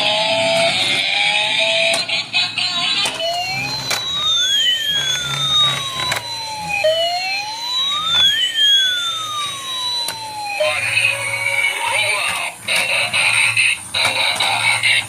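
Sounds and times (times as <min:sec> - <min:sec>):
electronic siren wailing: 0:00.0 - 0:15.0.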